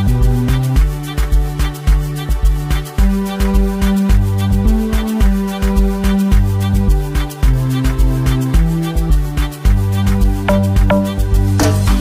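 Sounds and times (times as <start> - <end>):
afrobeat music with bass: 0.0 - 12.0.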